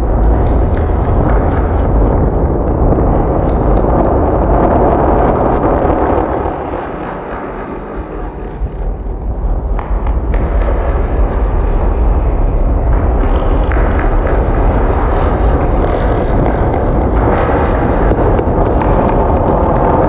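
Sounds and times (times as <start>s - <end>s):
deep low drone: 0.0s - 20.0s
dense rumbling noise: 0.0s - 20.0s.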